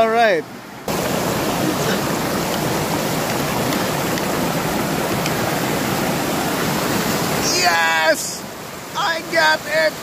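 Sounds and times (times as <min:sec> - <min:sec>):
river rapids rushing over rocks: 0:00.5 - 0:10.0.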